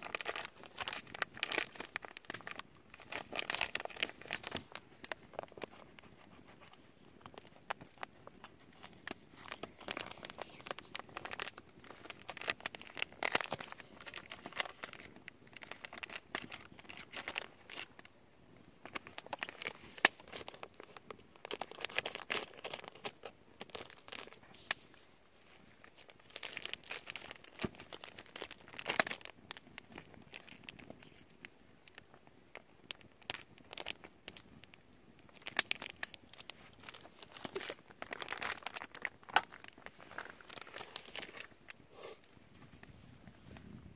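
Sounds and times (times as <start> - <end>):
plastic bag crinkling: 0.0 - 18.1, 18.8 - 31.2, 31.8 - 41.8.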